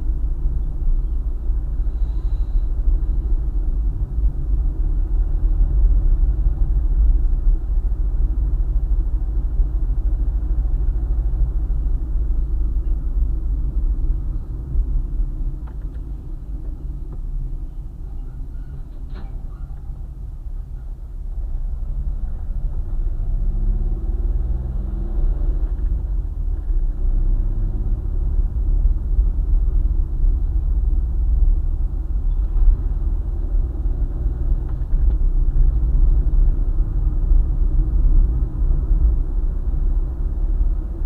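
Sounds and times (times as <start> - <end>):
road and tyre rumble: 0.0 - 41.0.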